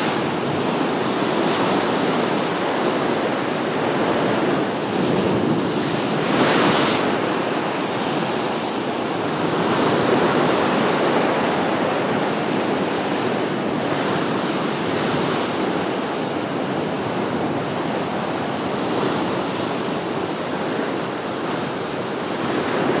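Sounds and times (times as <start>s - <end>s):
waves breaking on rocky shore: 0.0s - 23.0s.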